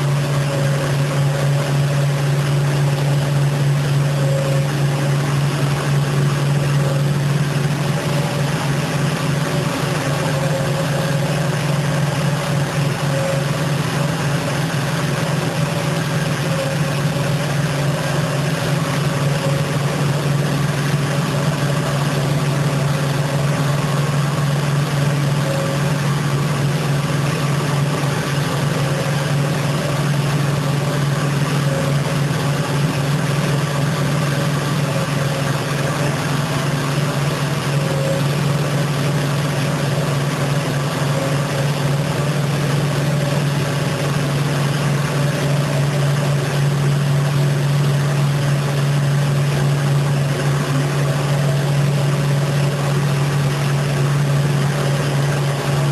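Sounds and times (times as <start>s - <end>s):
carpet-washing machine humming: 0.0s - 55.9s
faint steady motor tones: 0.0s - 55.9s.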